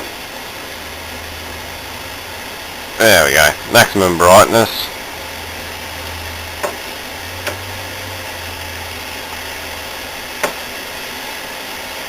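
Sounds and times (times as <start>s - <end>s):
low hum: 0.0s - 11.6s
television hiss: 0.0s - 12.0s.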